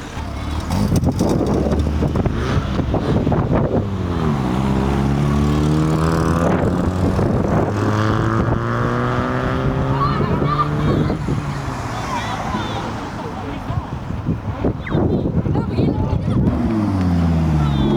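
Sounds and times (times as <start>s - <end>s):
car engine accelerating: 0.0s - 14.3s, 16.2s - 17.9s.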